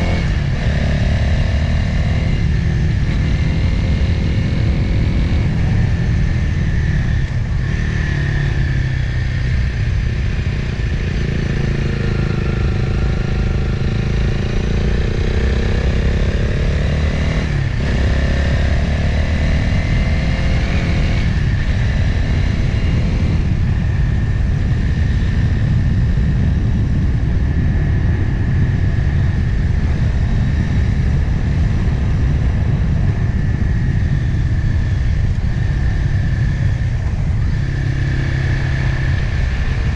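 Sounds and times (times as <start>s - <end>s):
motorcycle engine running: 0.0s - 39.9s
wind rumble: 0.0s - 39.9s.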